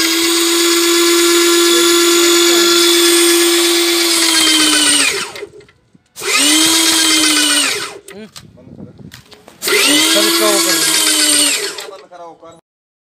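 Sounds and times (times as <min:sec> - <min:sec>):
paint sprayer pump motor humming: 0:00.0 - 0:08.1, 0:09.6 - 0:12.0.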